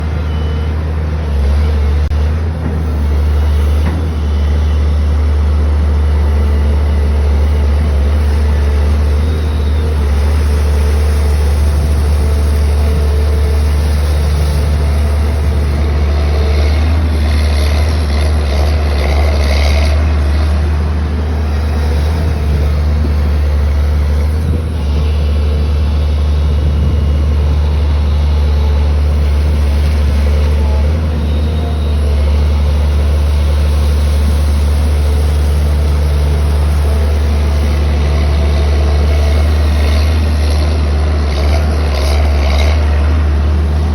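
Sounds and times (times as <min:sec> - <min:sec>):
excavator diesel engine humming: 0:00.0 - 0:43.9.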